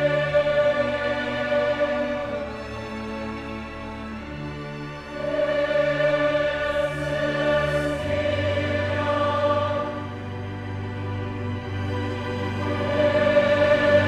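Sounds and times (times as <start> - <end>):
large choir singing held chords: 0.0 - 14.0
string orchestra: 0.0 - 14.0.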